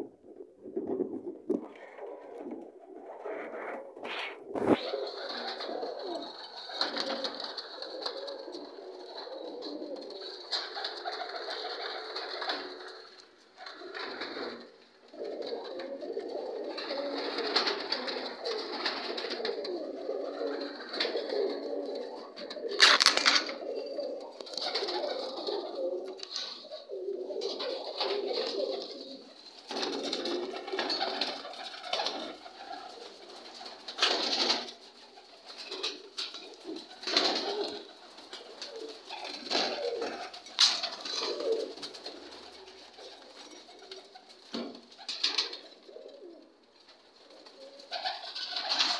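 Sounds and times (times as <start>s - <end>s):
pigeons cooing: 0.0s - 46.6s, 47.2s - 48.9s.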